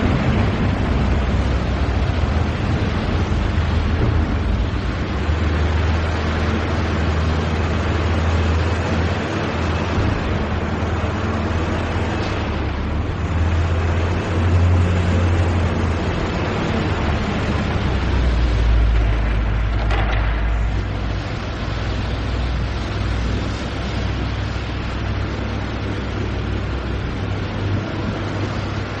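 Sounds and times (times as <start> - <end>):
factory machinery din: 0.0 - 29.0
strong low hum: 0.0 - 29.0.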